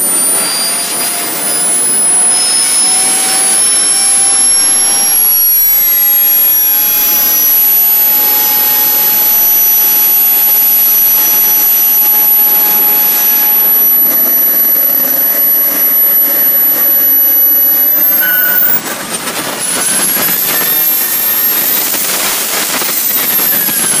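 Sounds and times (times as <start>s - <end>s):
jet turbine whining: 0.0s - 24.0s.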